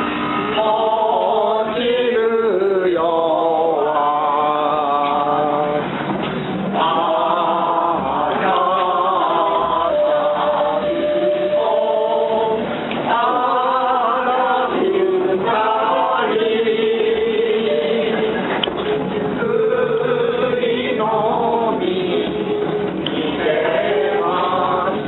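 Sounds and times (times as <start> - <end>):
group of people singing: 0.4 - 6.0, 6.7 - 25.0.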